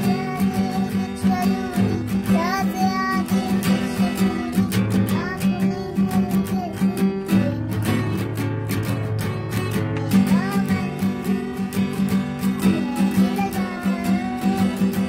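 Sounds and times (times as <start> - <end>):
acoustic guitar strumming: 0.0 - 15.0
girl singing: 0.0 - 15.0.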